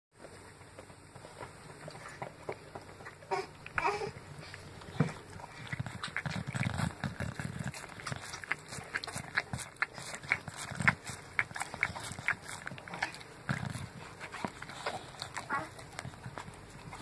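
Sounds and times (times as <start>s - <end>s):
dog chewing and licking: 0.2s - 17.0s.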